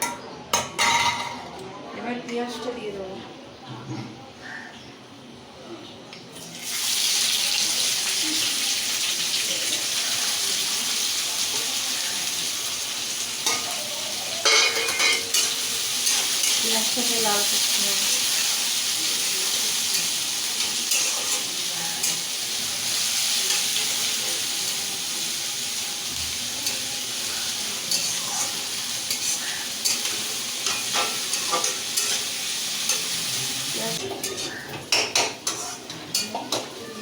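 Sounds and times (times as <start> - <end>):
onions sizzling in oil: 6.4 - 37.0.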